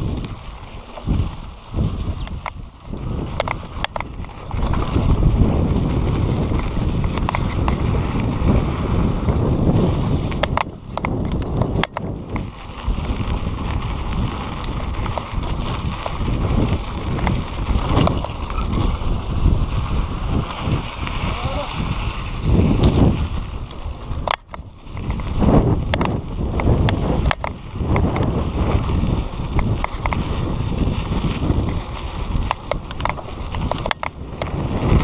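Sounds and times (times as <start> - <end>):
bike knocking and rattling: 0.0 - 35.0
bike tyres rumbling on dirt: 0.0 - 35.0.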